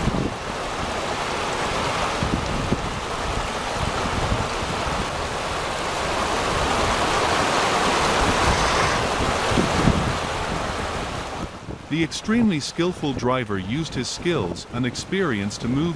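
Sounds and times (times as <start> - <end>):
wind buffeting microphone: 0.0 - 14.8
rushing river water: 0.0 - 15.9.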